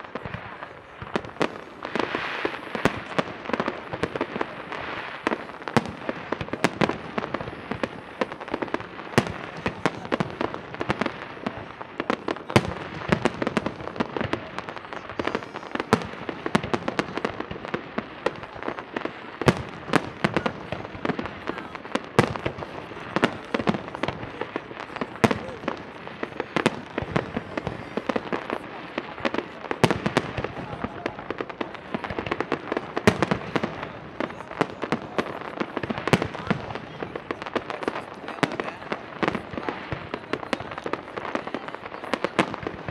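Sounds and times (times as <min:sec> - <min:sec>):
fireworks bangs and pops: 0:00.0 - 0:42.9.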